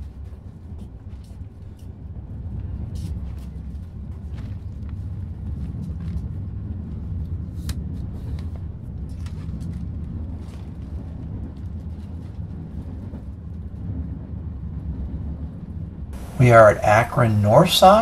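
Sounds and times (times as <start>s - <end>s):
train car rumbling on track: 0.0s - 18.0s.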